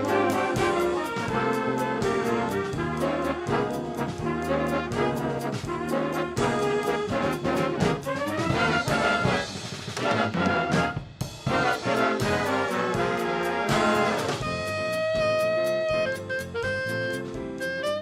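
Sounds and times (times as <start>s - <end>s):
drum strikes: 0.0s - 16.6s
brass band music: 0.0s - 18.0s.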